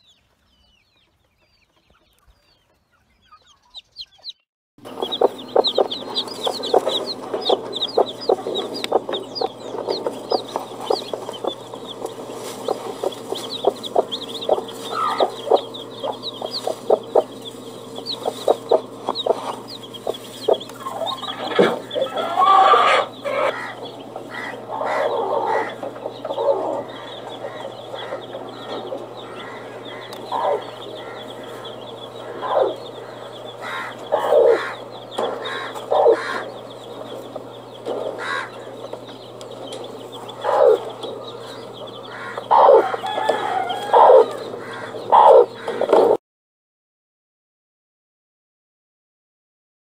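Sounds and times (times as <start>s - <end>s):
chicks peeping: 0.0s - 46.2s
chickens clucking: 0.2s - 46.2s
steady low hum: 4.8s - 46.2s.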